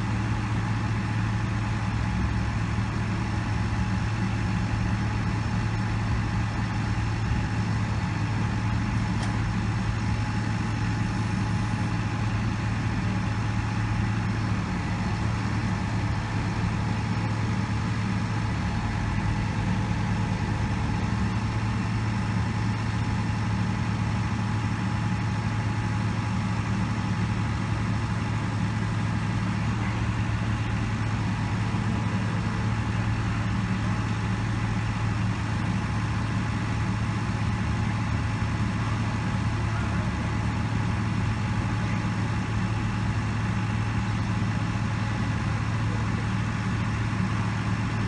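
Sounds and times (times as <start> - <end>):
piling rig engine running: 0.0 - 48.0.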